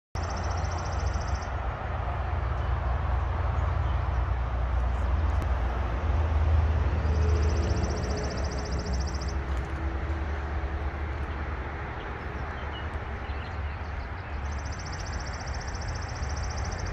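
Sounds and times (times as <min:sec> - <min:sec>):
low outdoor rumble: 0:00.3 - 0:16.9.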